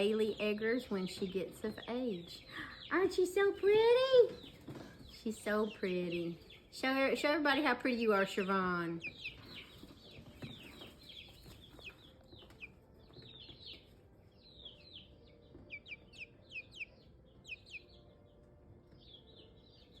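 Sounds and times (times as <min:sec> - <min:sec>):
chick peeping: 0:00.0 - 0:20.0.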